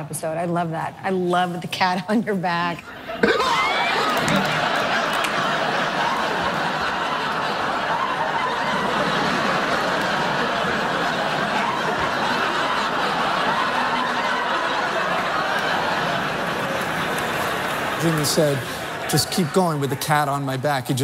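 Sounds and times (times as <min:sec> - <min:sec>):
audience laughing: 0:02.9 - 0:21.0.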